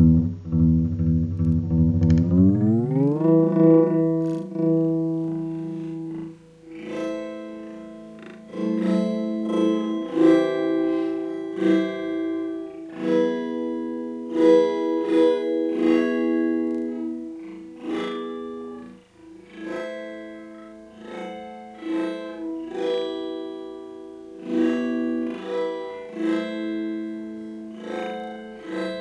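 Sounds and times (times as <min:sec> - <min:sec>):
plucked guitar with pitch-shift effect: 0:00.0 - 0:29.0.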